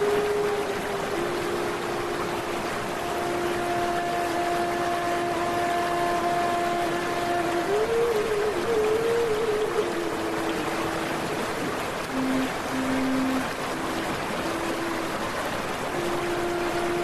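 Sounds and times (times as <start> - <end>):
rushing water: 0.0 - 17.0
steady humming tone: 0.0 - 17.0.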